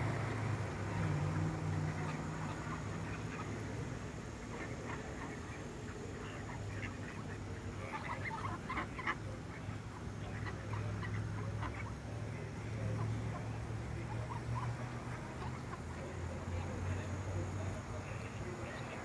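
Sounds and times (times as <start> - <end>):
steady low hum: 0.0 - 19.0
ducks quacking: 0.1 - 19.0.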